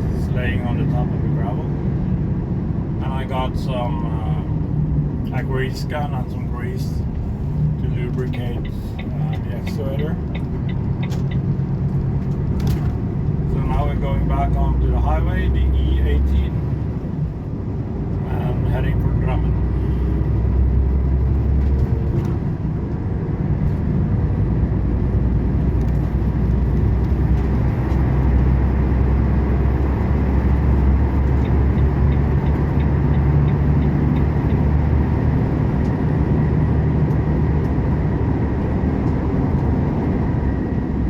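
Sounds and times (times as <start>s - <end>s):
diesel truck engine running: 0.0s - 41.0s
tyre and road noise: 0.0s - 41.0s.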